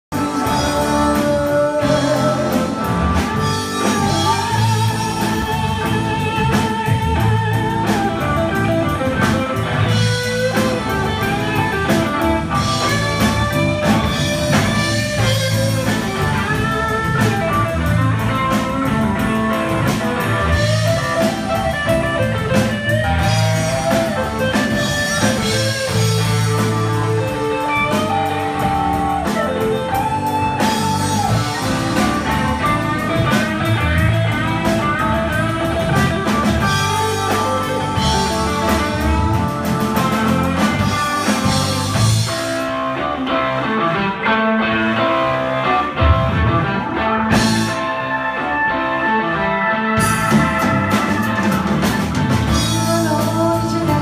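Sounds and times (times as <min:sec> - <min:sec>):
blues band playing: 0:00.1 - 0:54.0
electric guitar melody: 0:00.1 - 0:54.0.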